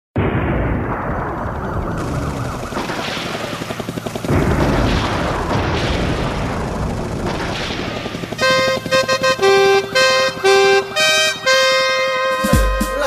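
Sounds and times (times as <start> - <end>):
helicopter rotor chop and roar: 1.2 - 12.4.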